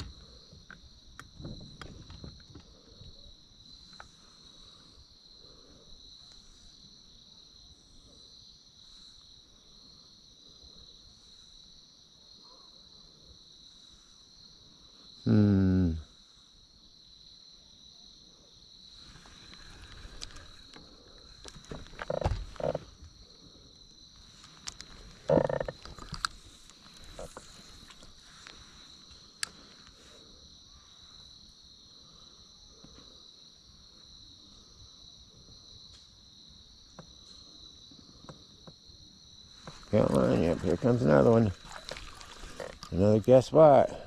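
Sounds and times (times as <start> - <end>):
insect chorus chirring: 0.0 - 44.0.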